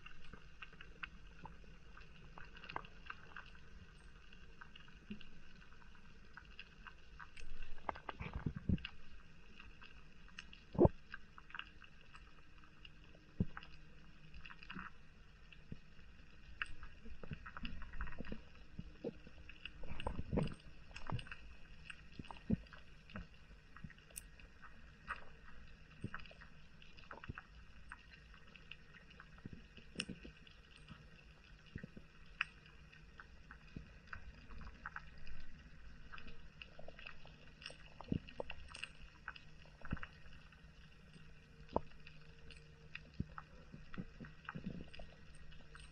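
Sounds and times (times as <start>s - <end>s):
underwater clicks and crackles: 0.0s - 45.9s.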